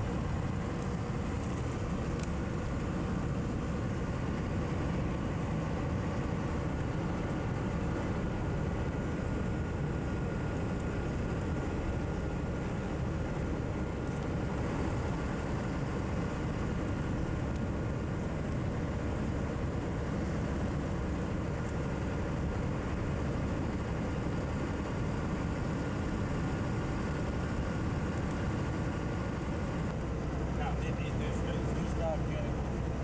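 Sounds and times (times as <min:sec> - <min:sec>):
diesel truck engine drone: 0:00.0 - 0:33.0
road and wind noise: 0:00.0 - 0:33.0.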